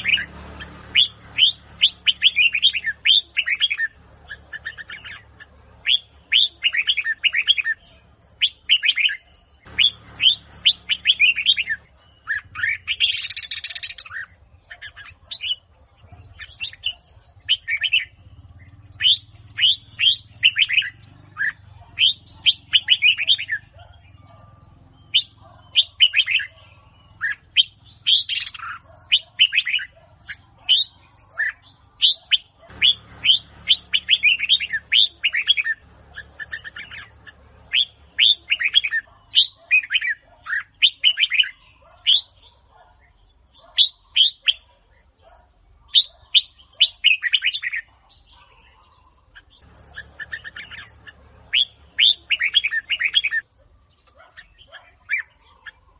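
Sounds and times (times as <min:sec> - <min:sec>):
bulbul singing whistled notes: 0:00.0 - 0:44.7, 0:45.9 - 0:48.8, 0:49.4 - 0:55.8.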